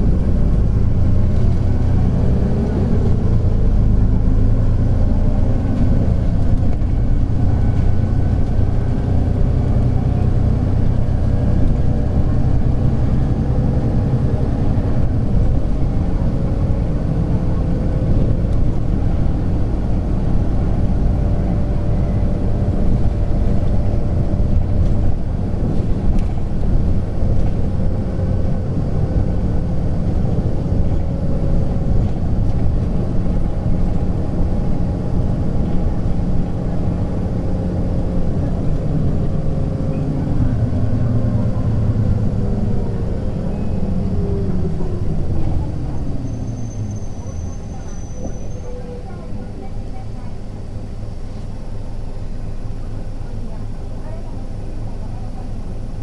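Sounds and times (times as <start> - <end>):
bus diesel engine rumble: 0.0 - 56.0.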